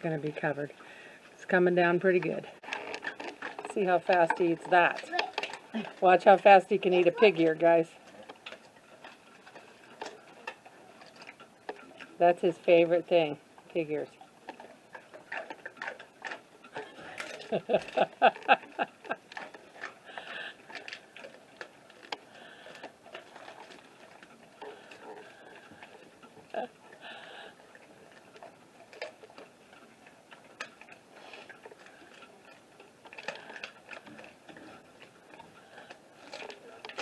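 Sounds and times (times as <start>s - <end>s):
dog chewing and crunching: 2.1s - 12.2s, 13.7s - 37.0s.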